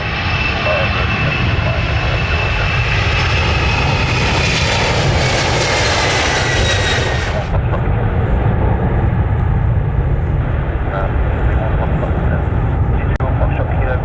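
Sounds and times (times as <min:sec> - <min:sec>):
jet engines rumbling past: 0:00.0 - 0:14.0.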